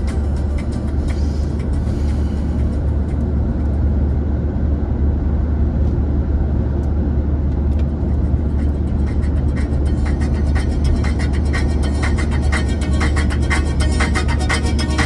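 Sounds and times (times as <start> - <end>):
car cabin road and engine drone: 0.0 - 15.0.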